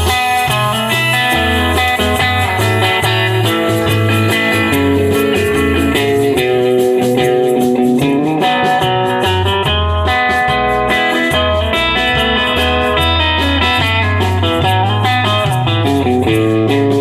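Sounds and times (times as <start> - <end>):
guitar holding melodic notes: 0.0 - 17.0
steady bass line: 0.0 - 17.0.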